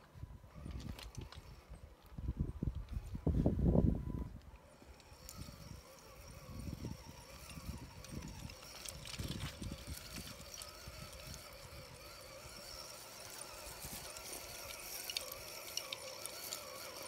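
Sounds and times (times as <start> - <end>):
wind on microphone: 0.2 - 4.5, 5.2 - 14.8
electric motor whine: 0.5 - 17.0.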